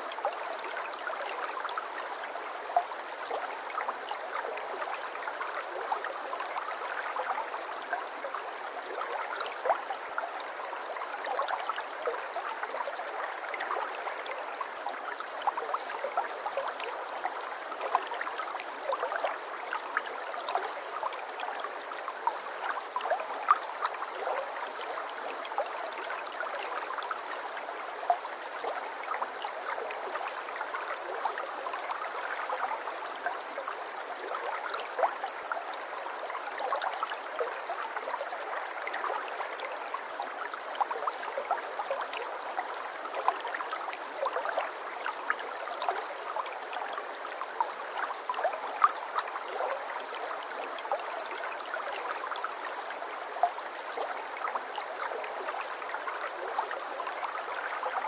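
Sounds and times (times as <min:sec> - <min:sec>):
brook water over stones: 0:00.0 - 0:58.0.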